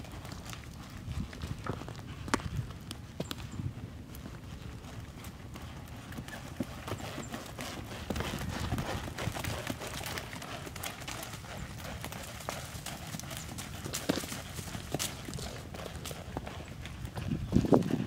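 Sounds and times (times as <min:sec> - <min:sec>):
horse hoofbeats on dirt: 0:00.0 - 0:18.0.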